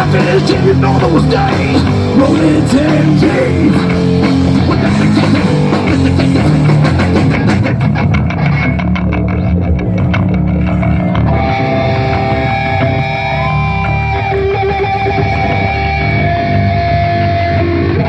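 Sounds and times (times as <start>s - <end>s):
bass guitar: 0.0s - 18.0s
drums: 0.0s - 18.0s
electric guitar through effects: 0.0s - 18.0s.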